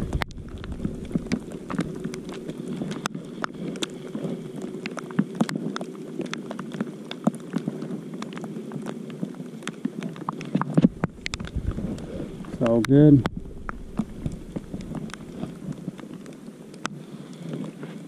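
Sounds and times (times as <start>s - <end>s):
muffled hiss of rain: 0.0s - 18.0s
raindrops ticking close: 0.0s - 18.0s.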